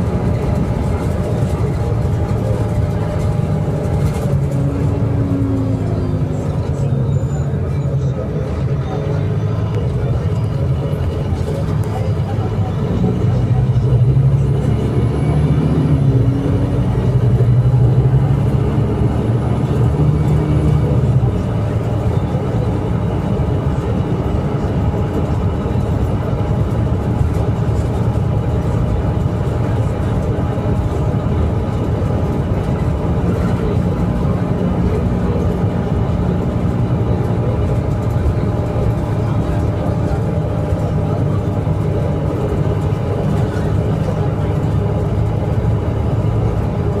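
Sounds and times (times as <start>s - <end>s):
bus diesel engine running: 0.0s - 47.0s.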